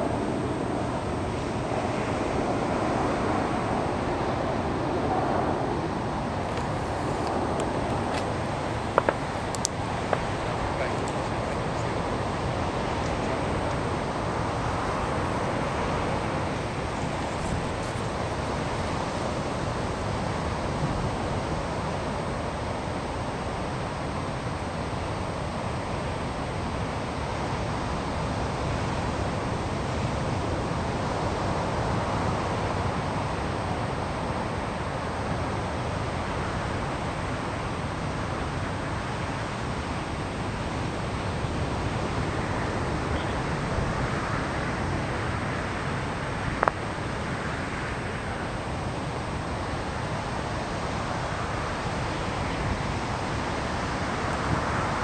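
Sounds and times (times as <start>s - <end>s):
outdoor background rush: 0.0s - 55.0s.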